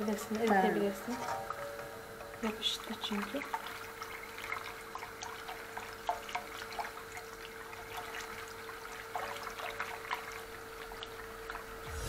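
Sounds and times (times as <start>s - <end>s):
faint steady hum: 0.0s - 12.0s
liquid sloshing: 0.3s - 12.0s.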